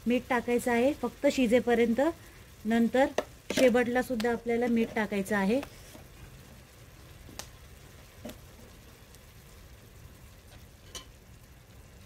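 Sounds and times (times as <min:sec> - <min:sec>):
onion and tomato sizzling in oil: 0:00.0 - 0:12.0.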